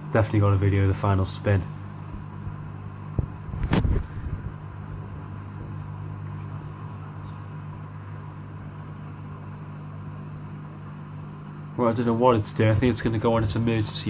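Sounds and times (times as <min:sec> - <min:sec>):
washing machine motor humming: 0:00.0 - 0:14.0.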